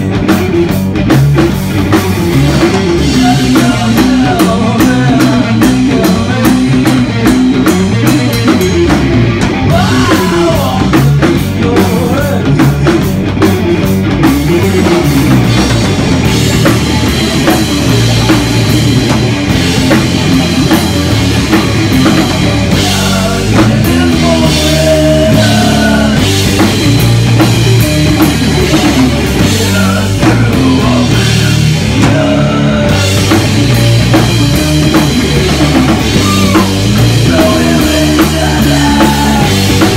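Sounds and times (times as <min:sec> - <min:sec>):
drum kit: 0:00.0 - 0:39.9
guitar: 0:00.0 - 0:39.9
live rock band playing: 0:00.0 - 0:39.9.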